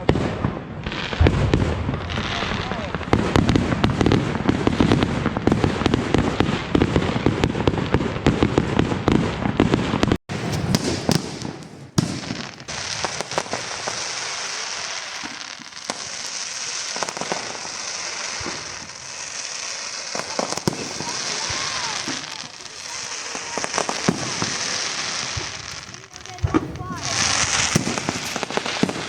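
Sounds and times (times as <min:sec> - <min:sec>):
fireworks cracks and bangs: 0:00.0 - 0:29.0
fireworks pops and crackles: 0:00.0 - 0:29.0.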